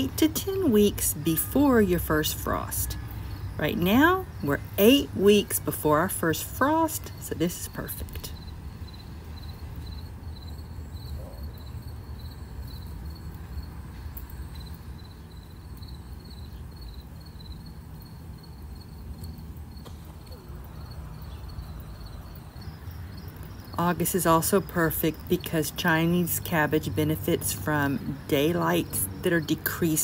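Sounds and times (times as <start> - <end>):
insect chirping: 0.0 - 30.0.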